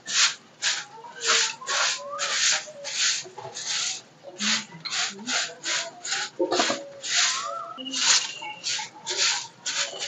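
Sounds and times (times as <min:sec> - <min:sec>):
broom sweeping earthen floor: 0:00.0 - 0:10.0.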